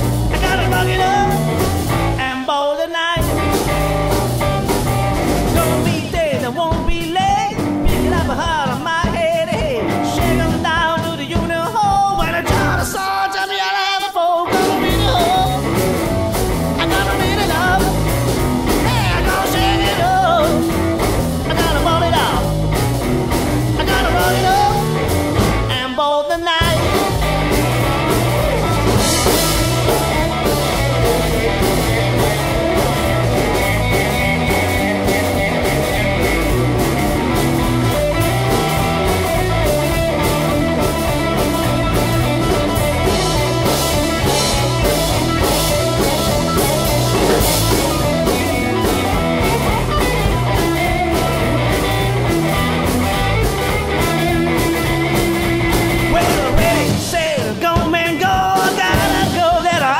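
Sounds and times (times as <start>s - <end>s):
rock and roll band playing: 0.0s - 59.9s.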